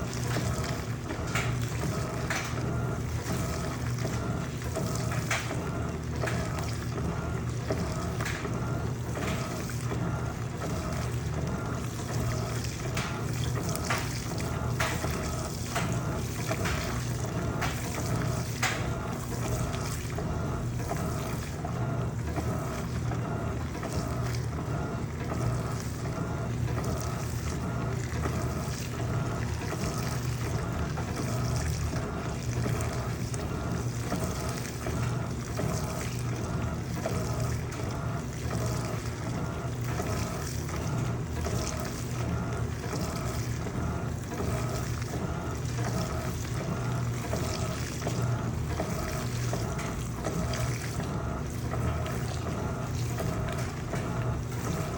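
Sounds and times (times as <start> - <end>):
washing machine motor hum: 0.0 - 54.9
water sloshing: 0.0 - 54.9.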